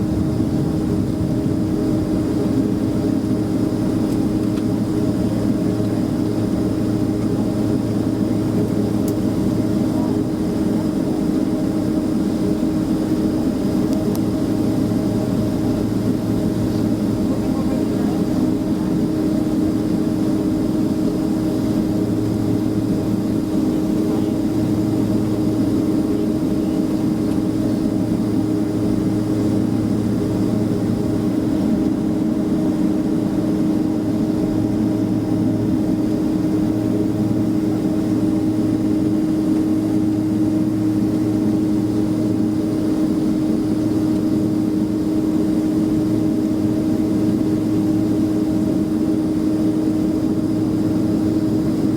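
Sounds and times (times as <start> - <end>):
jet engines droning in cabin: 0.0 - 51.9.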